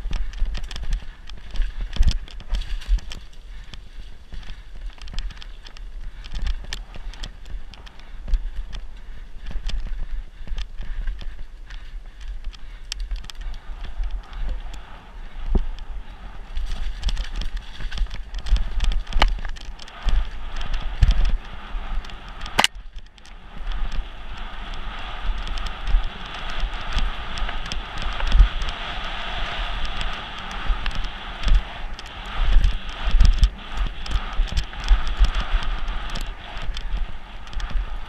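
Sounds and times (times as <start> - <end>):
bike clicks and knocks: 0.0 - 38.0
wind rumbling on microphone: 0.0 - 38.0.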